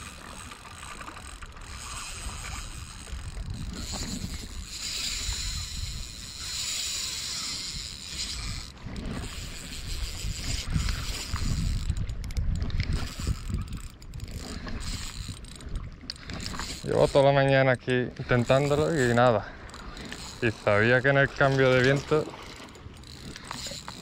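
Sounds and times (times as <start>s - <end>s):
fishing reel whirring: 0.0s - 24.0s
wind rumbling on microphone: 0.0s - 24.0s.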